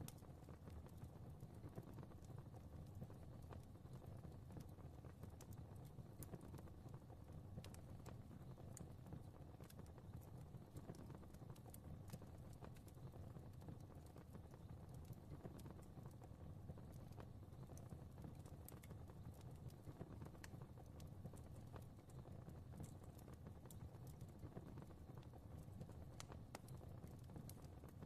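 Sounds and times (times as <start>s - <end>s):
small pops and snaps: 0.0s - 28.0s
wood fire crackling: 0.0s - 28.0s.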